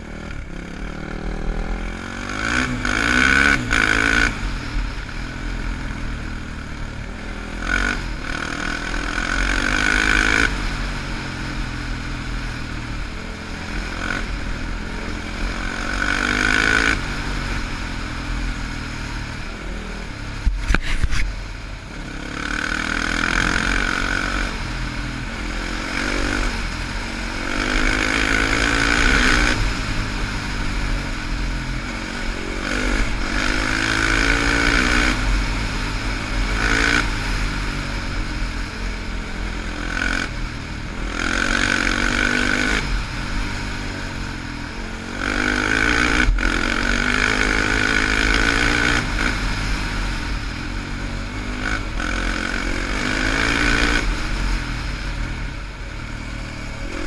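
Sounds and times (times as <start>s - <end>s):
quad engine revving: 0.0s - 5.8s, 6.7s - 12.2s, 13.3s - 18.6s, 21.9s - 55.5s
wind and tyres on gravel: 0.0s - 57.0s.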